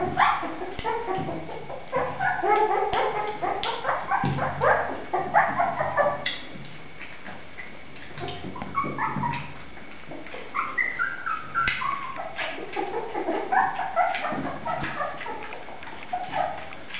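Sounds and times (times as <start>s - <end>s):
puppies whining and squeaking: 0.0s - 6.6s, 7.6s - 16.9s.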